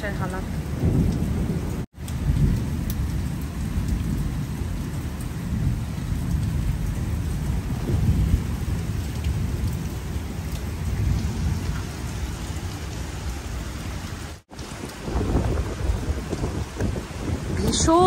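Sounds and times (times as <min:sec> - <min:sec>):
deep thunder rumble: 0:00.0 - 0:12.8, 0:14.5 - 0:18.0
heavy rain: 0:00.0 - 0:18.0
storm wind: 0:00.0 - 0:18.0.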